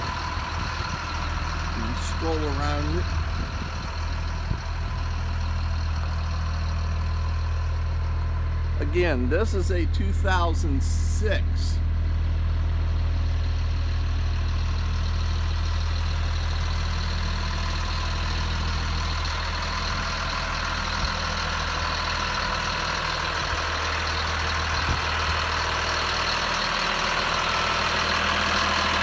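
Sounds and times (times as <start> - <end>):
bus diesel engine idling: 0.0 - 29.0.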